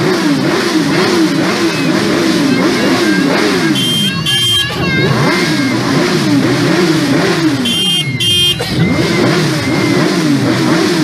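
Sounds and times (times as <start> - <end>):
motorcycles revving engines: 0.0 - 11.0.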